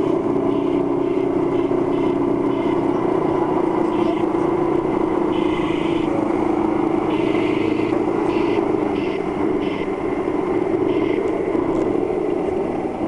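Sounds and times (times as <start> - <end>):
electric motor and gearbox whining: 0.0 - 13.0.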